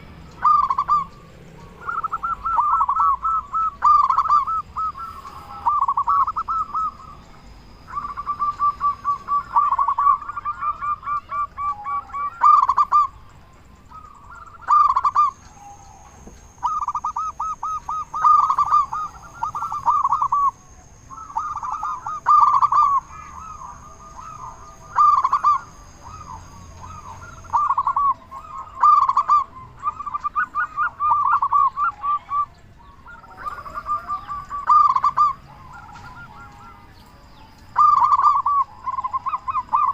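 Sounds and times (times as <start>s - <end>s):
dove cooing: 0.0s - 39.9s
faint high steady tone: 0.0s - 39.9s.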